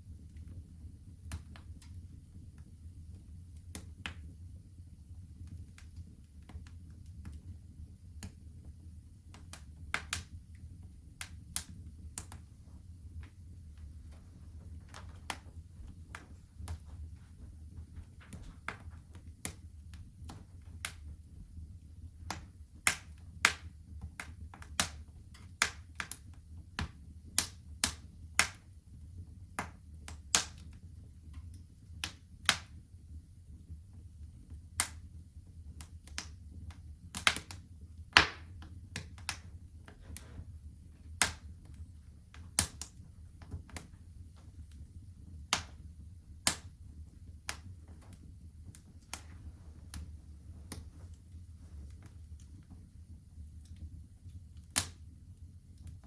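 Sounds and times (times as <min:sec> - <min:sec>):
flames rumbling: 0:00.0 - 0:56.0
wood fire crackling: 0:00.0 - 0:56.0.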